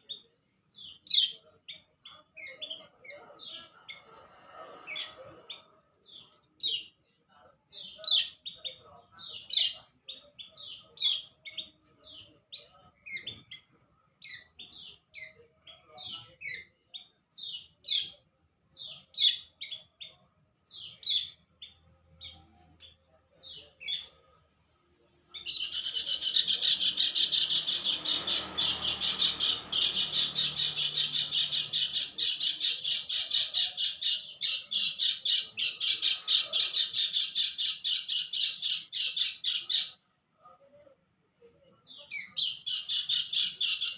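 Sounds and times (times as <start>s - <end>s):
bird chirping and trilling: 0.0s - 7.1s, 7.7s - 24.4s, 25.2s - 40.0s, 41.8s - 43.9s.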